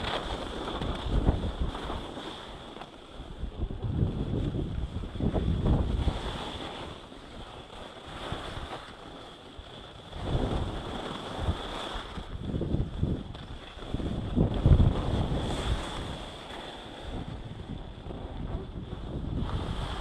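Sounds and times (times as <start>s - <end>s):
wind buffeting microphone: 0.0s - 2.6s, 3.2s - 7.5s, 9.6s - 20.0s
skis sliding on snow: 0.0s - 20.0s.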